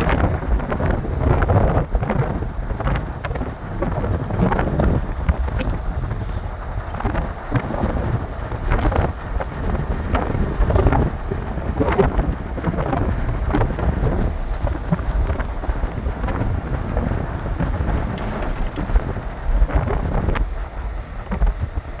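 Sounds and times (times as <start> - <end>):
wind buffeting the microphone: 0.0 - 22.0.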